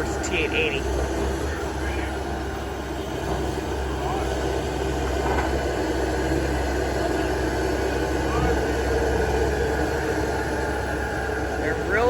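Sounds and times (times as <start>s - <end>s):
diesel machinery drone: 0.0s - 12.0s.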